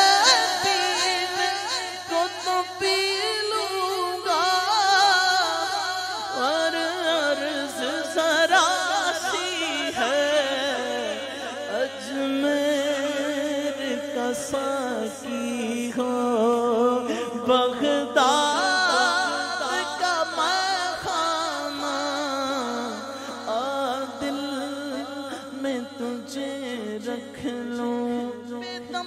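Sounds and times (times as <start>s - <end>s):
man singing unaccompanied: 0.0s - 29.0s.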